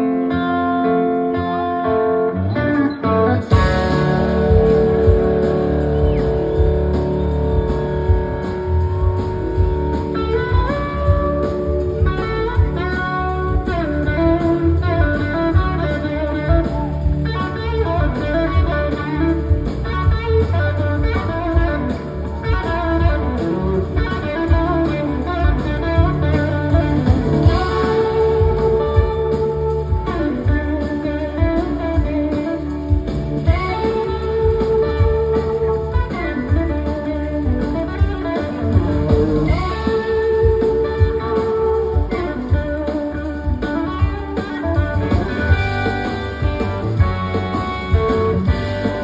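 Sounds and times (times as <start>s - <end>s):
electric slide guitar solo: 0.0s - 49.0s
drums and bass: 2.4s - 49.0s.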